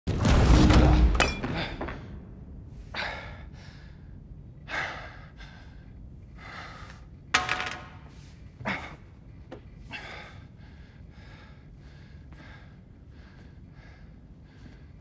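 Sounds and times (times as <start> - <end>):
man breathing hard: 1.6 - 7.2, 8.4 - 15.0.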